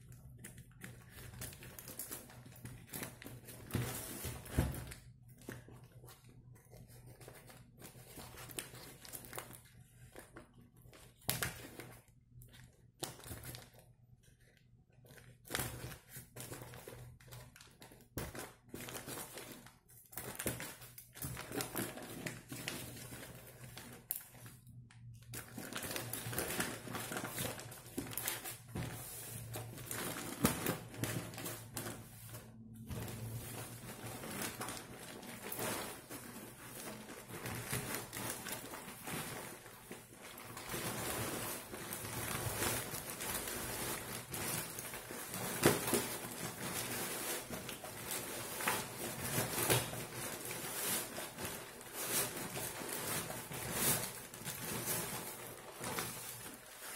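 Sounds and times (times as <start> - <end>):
plastic wrapping and tape crinkling: 0.0 - 56.9.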